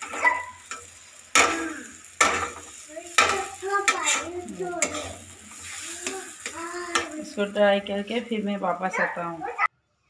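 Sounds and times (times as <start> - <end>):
metal spatula scraping a pan: 0.0 - 8.9
paste sizzling in oil: 0.0 - 8.9.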